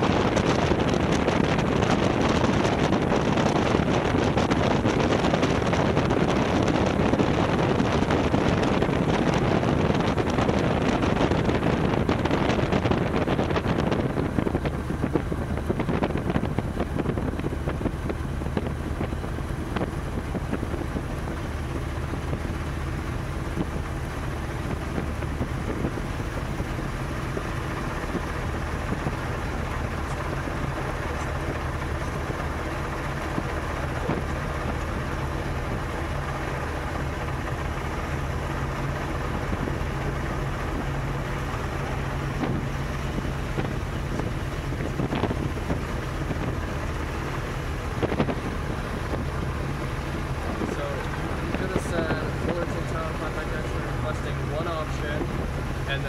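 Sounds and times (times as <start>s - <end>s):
aircraft piston engine and propeller: 0.0s - 56.0s
wind rushing on microphone: 0.0s - 56.0s.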